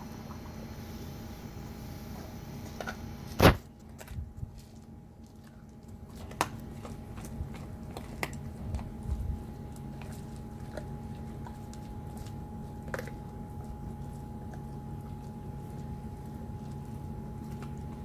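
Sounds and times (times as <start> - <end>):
steady hum: 0.0 - 18.0
dog chewing and crunching bone: 2.6 - 18.0.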